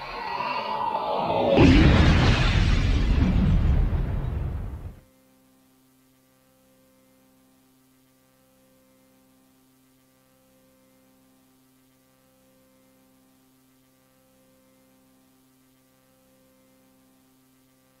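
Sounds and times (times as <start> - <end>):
faint electrical hum with hiss: 1.6 - 18.0.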